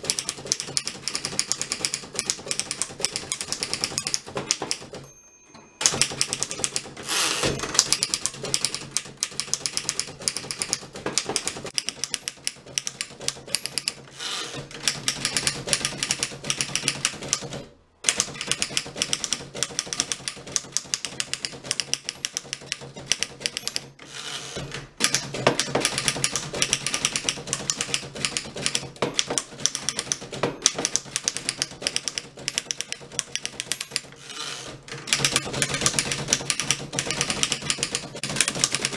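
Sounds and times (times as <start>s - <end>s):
typewriter keystroke clacks: 0.0s - 5.0s, 5.8s - 38.9s.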